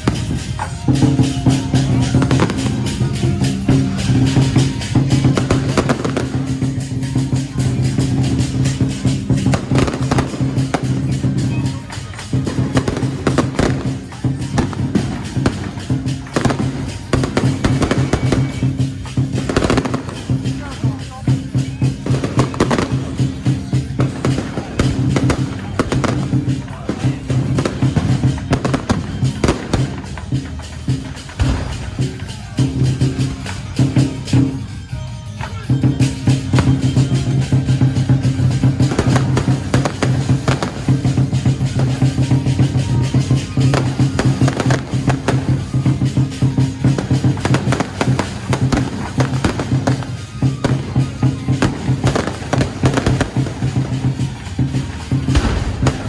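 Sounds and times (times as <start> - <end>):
electronic firecrackers popping: 0.0 - 56.0
loud music: 0.0 - 56.0.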